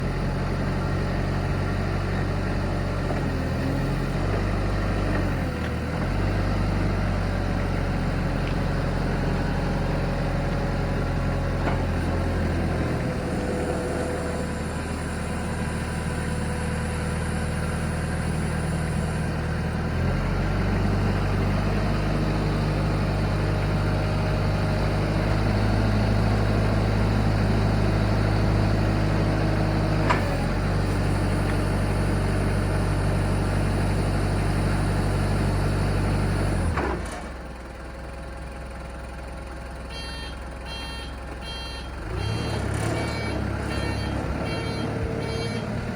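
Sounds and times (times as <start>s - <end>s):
forklift diesel engine idling: 0.0s - 45.9s.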